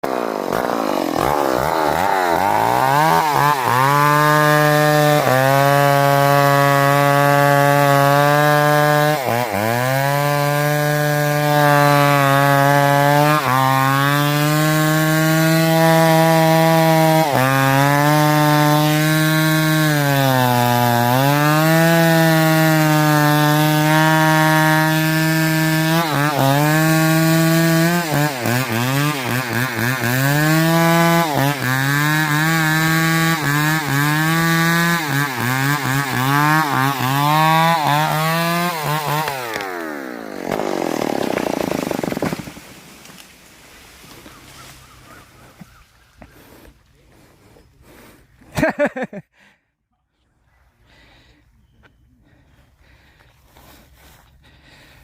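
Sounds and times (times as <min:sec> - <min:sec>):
chainsaw cutting wood: 0:00.0 - 0:49.2, 0:52.3 - 0:55.0.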